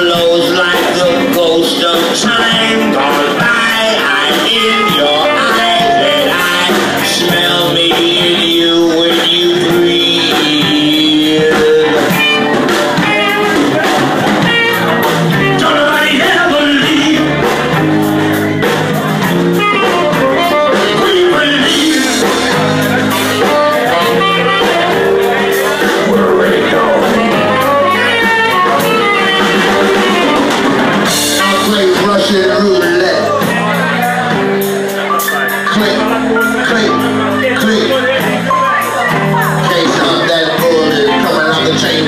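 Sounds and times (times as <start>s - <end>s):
blues band with guitar and keyboards: 0.0s - 42.0s
person singing: 0.0s - 42.0s.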